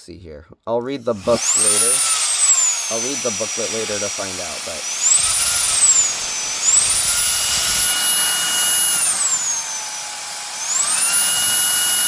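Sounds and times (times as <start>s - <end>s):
vacuum blower motor whining: 1.1s - 12.0s.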